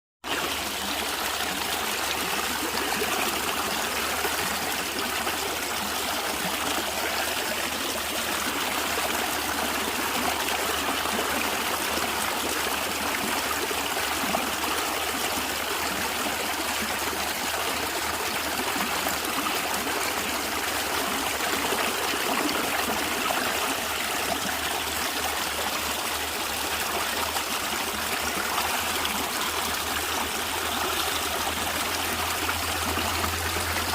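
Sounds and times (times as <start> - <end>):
stream flowing and gurgling: 0.2 - 33.9.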